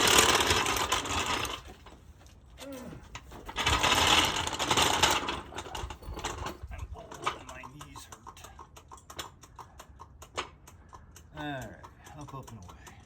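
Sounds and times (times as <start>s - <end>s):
floor jack clattering and ratcheting: 0.0s - 2.0s, 3.1s - 13.0s.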